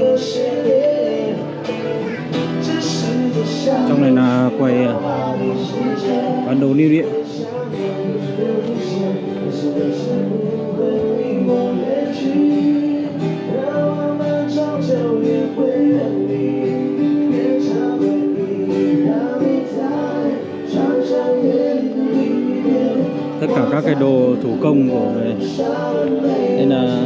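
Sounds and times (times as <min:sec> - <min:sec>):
song with singing over instruments: 0:00.0 - 0:27.0.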